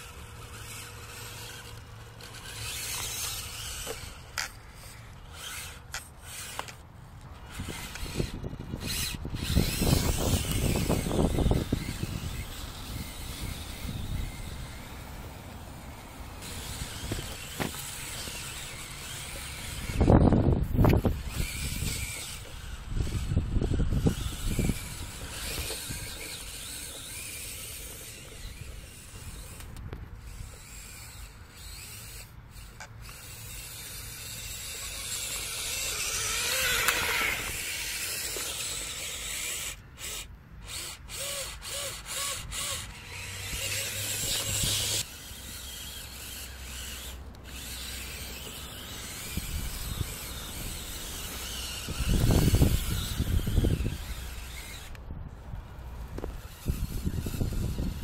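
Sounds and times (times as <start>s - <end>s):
small electric motor whirring: 0.0s - 58.0s.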